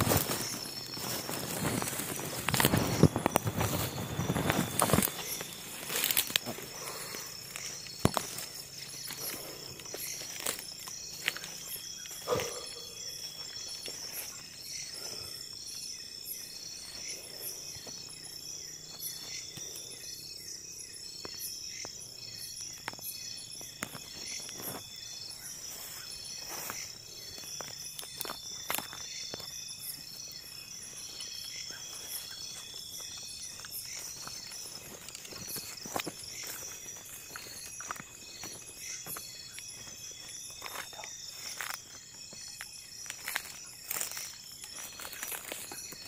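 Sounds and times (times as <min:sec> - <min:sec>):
rustling through undergrowth: 0:00.0 - 0:19.9, 0:23.6 - 0:46.0
crickets chirping: 0:00.0 - 0:46.0.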